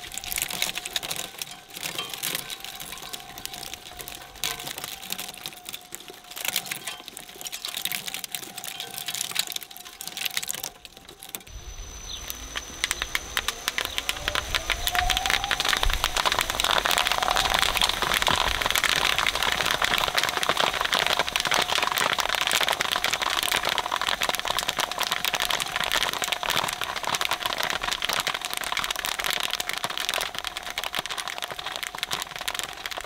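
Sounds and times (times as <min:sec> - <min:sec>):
bubble wrap popping: 0:00.0 - 0:33.0
shredder crunching plastic parts: 0:00.0 - 0:33.0.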